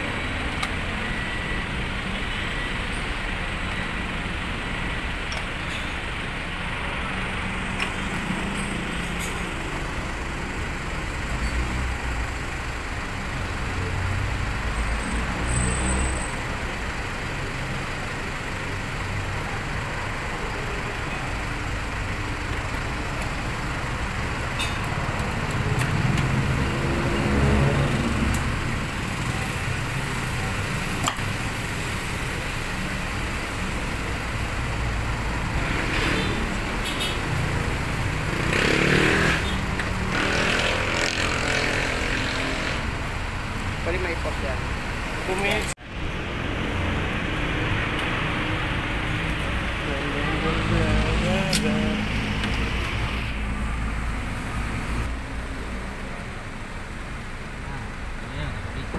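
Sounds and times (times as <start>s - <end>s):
traffic noise: 0.0s - 58.9s
vehicle engine rumble: 0.0s - 58.9s.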